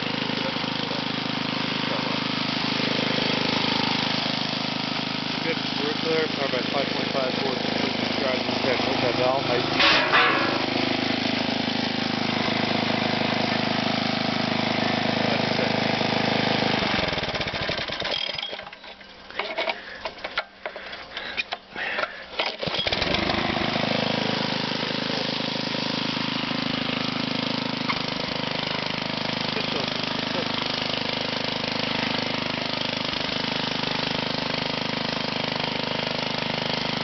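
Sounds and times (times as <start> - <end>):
tiller engine running: 0.0 - 37.0.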